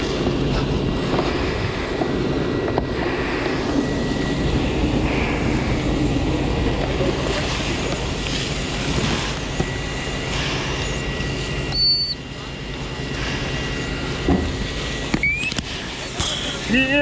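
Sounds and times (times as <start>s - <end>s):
low rumble: 0.0s - 16.8s
fire hose spraying water: 0.0s - 17.0s.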